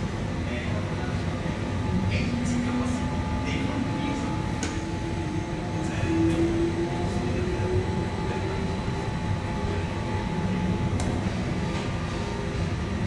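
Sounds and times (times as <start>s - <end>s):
faint motor whine: 0.0s - 13.0s.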